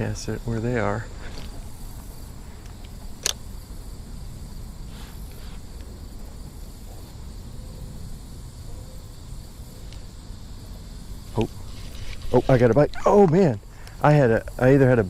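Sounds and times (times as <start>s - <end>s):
insects chirring: 0.0s - 15.0s
low outdoor rumble: 0.0s - 15.0s.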